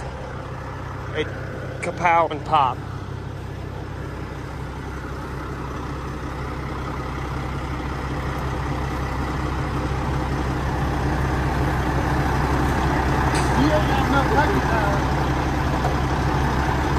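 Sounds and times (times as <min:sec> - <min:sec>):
diesel truck engine idling: 0:00.0 - 0:16.9.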